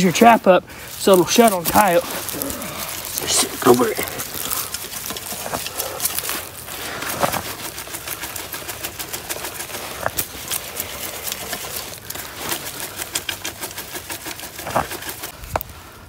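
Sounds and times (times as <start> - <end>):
soil rattling in metal sifter: 0.0 - 15.4.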